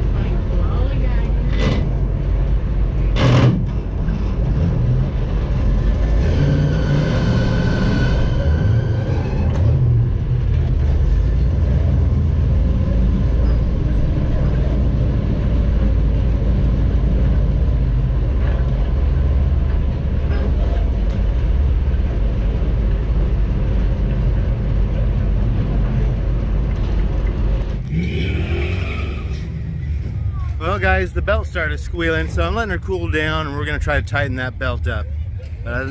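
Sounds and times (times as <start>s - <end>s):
bus engine rumbling: 0.0s - 35.9s
road noise: 0.0s - 35.9s.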